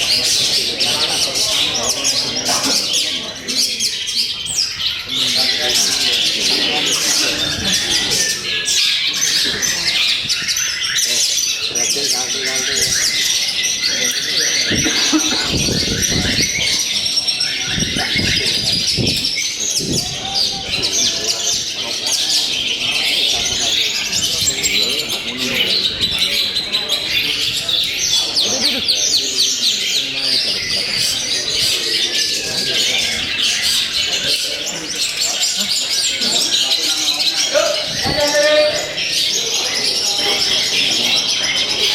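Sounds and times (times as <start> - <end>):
faint human voices: 0.0 - 41.9
songbirds chirping and trilling: 0.0 - 41.9.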